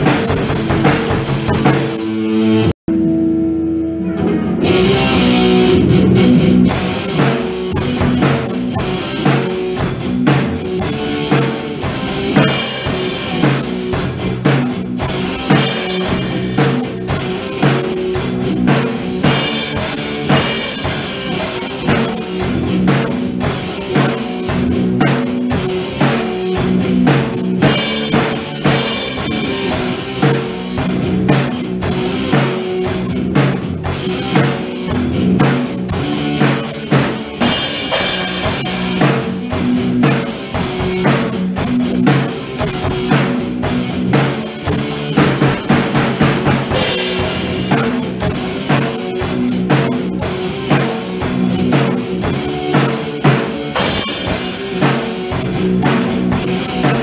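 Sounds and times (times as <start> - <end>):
rock music with drums and guitar: 0.0 - 57.0.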